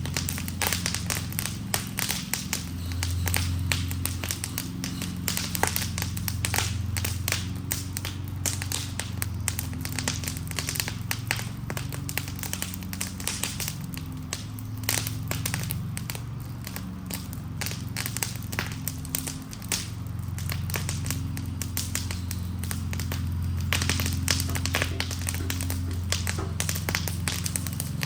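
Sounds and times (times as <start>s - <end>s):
burning wood crackling and popping: 0.0s - 28.0s
low fire rumble: 0.0s - 28.0s.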